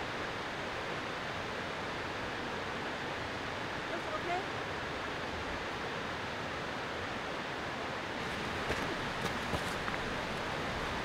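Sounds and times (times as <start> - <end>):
steady outdoor rushing noise: 0.0 - 11.0.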